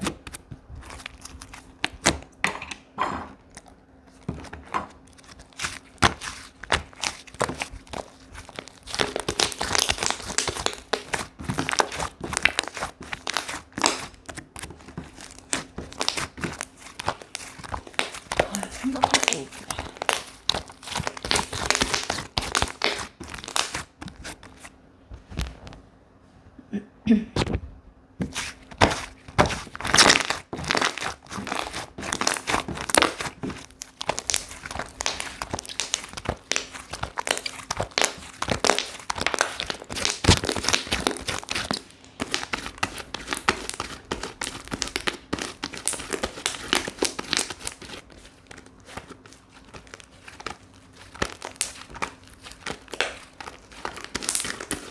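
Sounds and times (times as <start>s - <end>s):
slime squished by hand: 0.0s - 25.8s, 27.3s - 54.9s.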